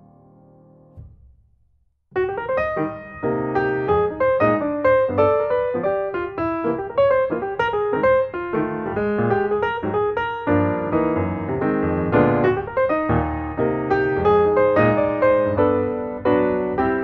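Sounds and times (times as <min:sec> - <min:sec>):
piano music: 0:00.0 - 0:01.1, 0:02.1 - 0:17.0.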